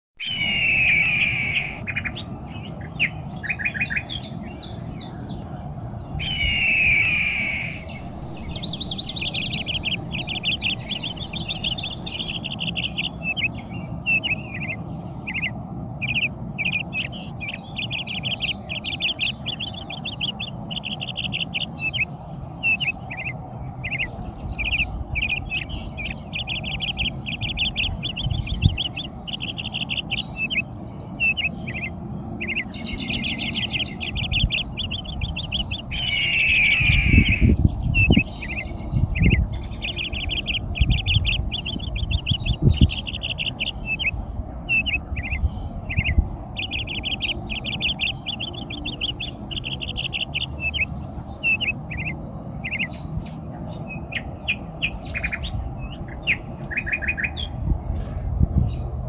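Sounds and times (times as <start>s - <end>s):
small birds chirping: 0.2s - 59.0s
steady low rumble: 0.2s - 59.0s.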